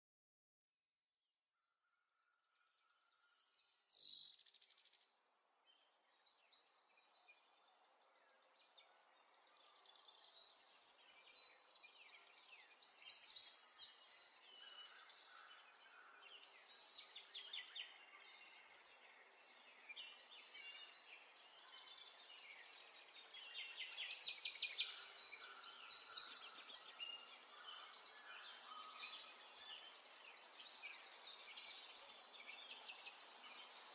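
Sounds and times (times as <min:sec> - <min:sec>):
small birds chirping: 0:02.1 - 0:33.9.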